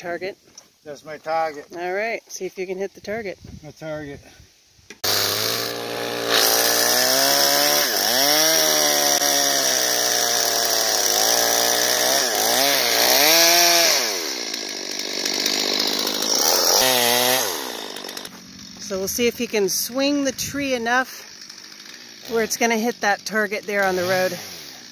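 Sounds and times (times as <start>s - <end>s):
chainsaw cutting wood: 4.9s - 24.9s.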